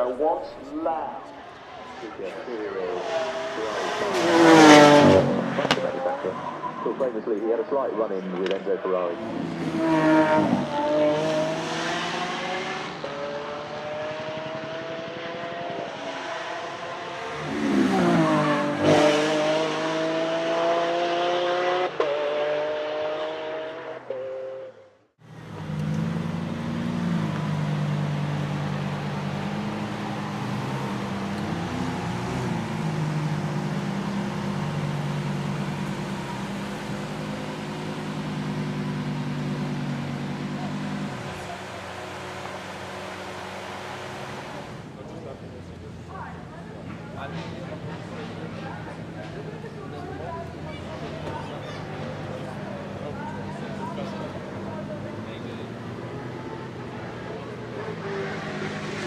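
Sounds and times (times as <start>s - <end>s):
car engine pulling under load: 1.3s - 23.8s, 25.2s - 59.0s.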